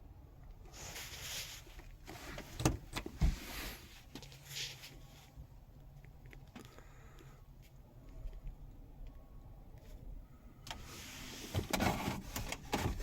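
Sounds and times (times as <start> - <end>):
rustling and handling noise: 0.4 - 10.0, 10.6 - 13.0.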